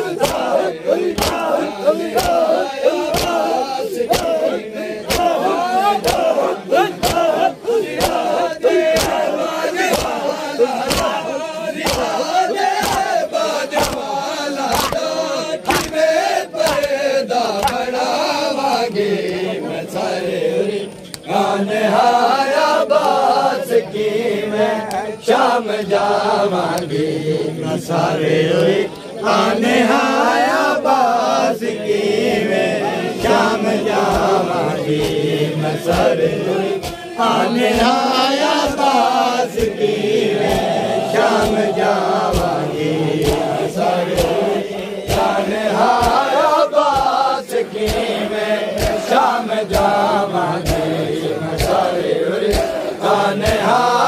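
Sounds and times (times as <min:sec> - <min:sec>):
men chanting in unison: 0:00.0 - 0:54.0
rhythmic chest-beating slaps: 0:00.0 - 0:54.0.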